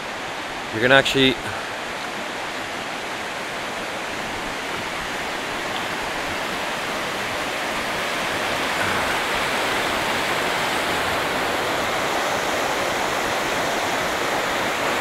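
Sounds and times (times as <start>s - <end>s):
stream rushing under bridge: 0.0s - 15.0s.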